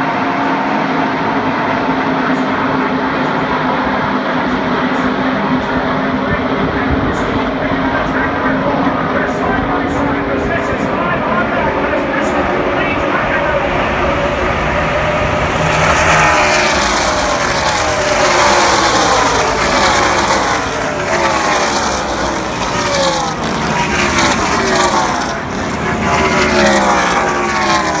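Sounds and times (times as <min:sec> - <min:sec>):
race car engines passing by: 0:00.0 - 0:28.0.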